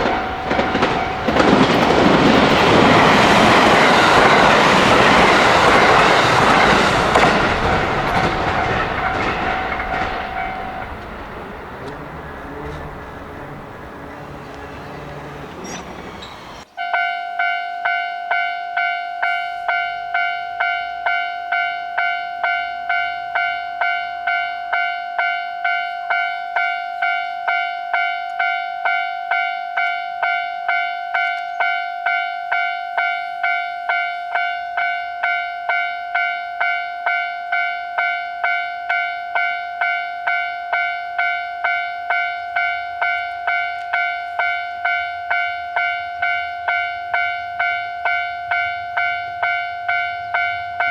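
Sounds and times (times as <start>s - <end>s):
level crossing bell dinging: 5.6s - 14.4s, 16.8s - 50.9s.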